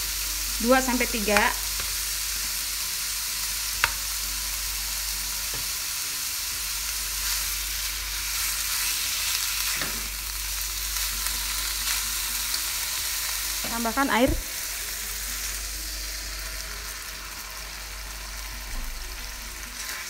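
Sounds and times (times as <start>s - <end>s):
food sizzling in a wok: 0.0s - 20.0s.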